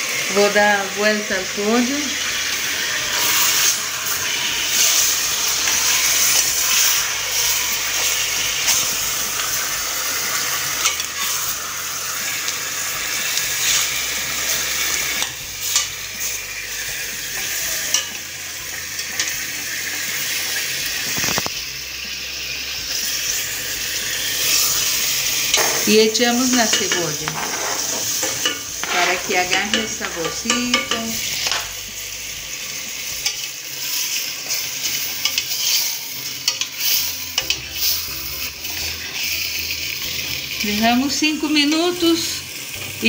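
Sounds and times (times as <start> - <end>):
chicken sizzling in a pot: 0.0 - 43.0.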